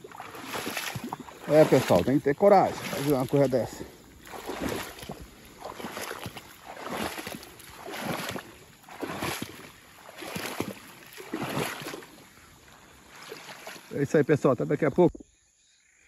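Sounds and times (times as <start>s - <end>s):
footsteps sloshing through water: 0.0s - 14.2s.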